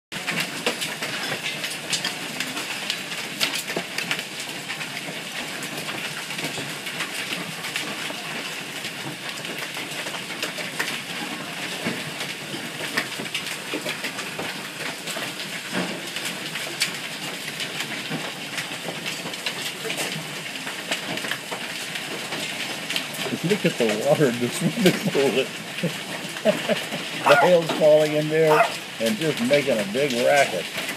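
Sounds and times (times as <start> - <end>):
hailstones pattering: 0.1 - 30.9
sharp hail cracks: 0.2 - 30.9.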